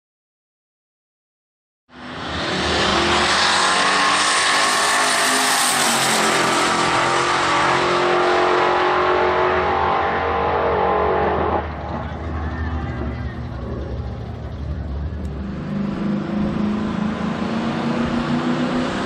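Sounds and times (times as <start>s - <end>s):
drag car engine at full throttle: 2.0s - 19.0s.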